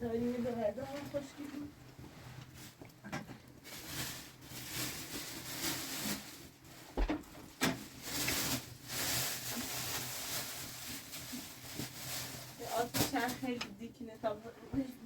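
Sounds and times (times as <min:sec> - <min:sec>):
rustling handling noise: 0:00.1 - 0:15.0.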